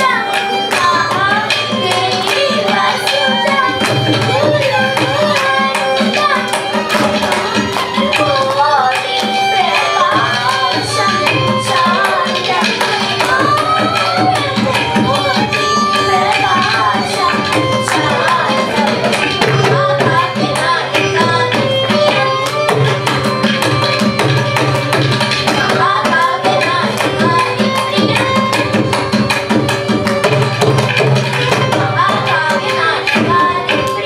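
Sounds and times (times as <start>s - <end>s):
children singing: 0.0s - 34.0s
violin melody: 0.0s - 34.0s.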